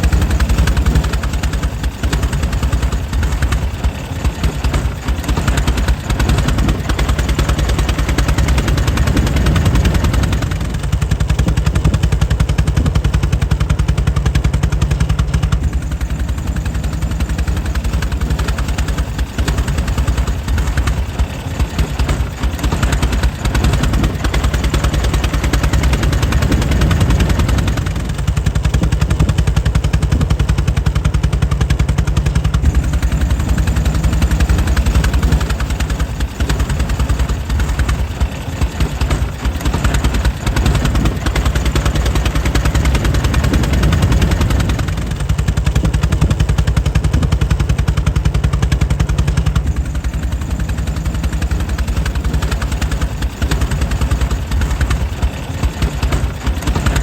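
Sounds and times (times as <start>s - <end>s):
engine exhaust beats: 0.0s - 57.0s.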